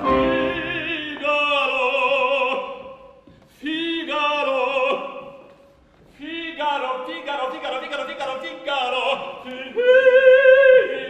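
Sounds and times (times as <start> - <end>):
operatic singing: 0.0 - 5.5, 6.2 - 11.0.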